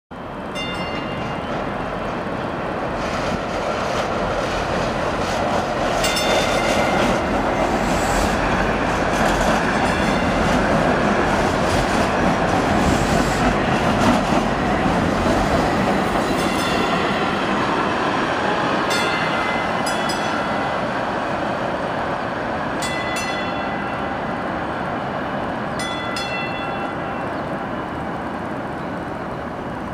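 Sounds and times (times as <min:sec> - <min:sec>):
train wheels rumbling: 0:00.2 - 0:29.9.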